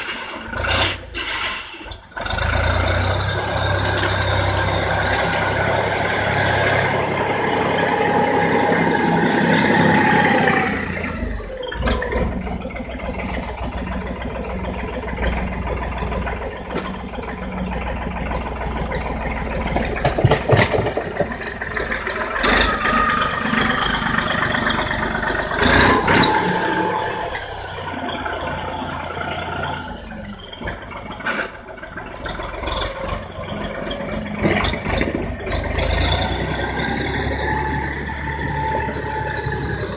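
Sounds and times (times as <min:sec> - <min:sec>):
manure spreader rattling: 0:00.0 - 0:39.9
tractor engine running: 0:00.0 - 0:39.9.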